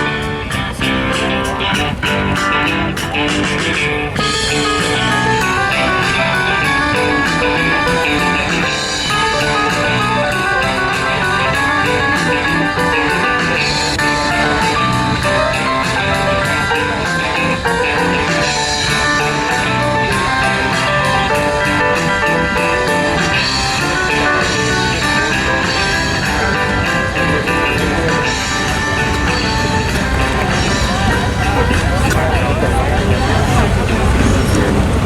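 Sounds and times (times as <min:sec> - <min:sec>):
bass guitar: 0:00.0 - 0:35.0
electric guitar: 0:00.0 - 0:35.0.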